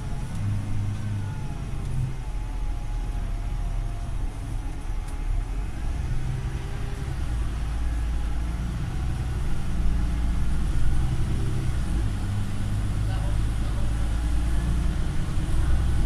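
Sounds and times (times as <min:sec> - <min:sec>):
bus engine droning inside cabin: 0:00.0 - 0:16.0.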